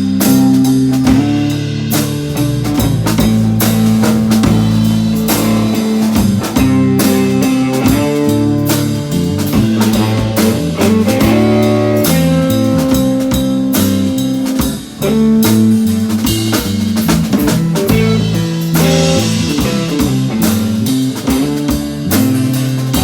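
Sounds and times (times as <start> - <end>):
drum kit beat: 0.0 - 23.0
guitar: 0.0 - 23.0.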